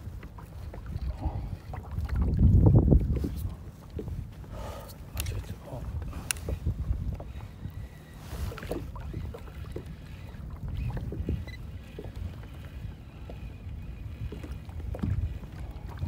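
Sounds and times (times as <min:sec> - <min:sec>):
water slapping against hull: 0:00.0 - 0:16.0
wind rumble on microphone: 0:00.0 - 0:16.0.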